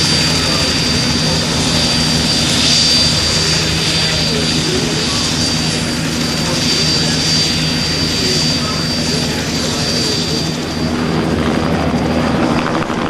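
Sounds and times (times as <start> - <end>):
propeller airplane droning overhead: 0.0 - 13.0.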